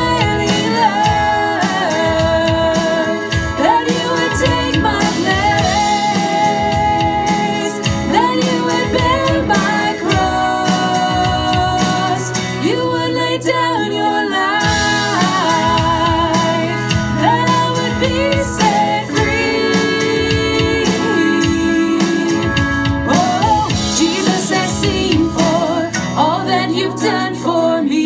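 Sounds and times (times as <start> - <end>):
band with keyboard chords and bass: 0.0 - 28.0
person singing: 0.0 - 28.0.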